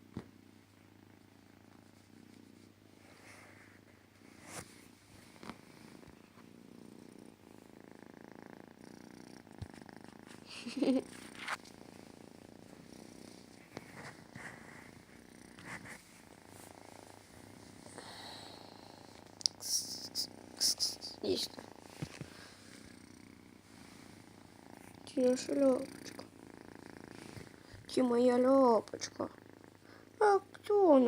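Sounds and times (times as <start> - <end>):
kitten purring: 0.0 - 31.0.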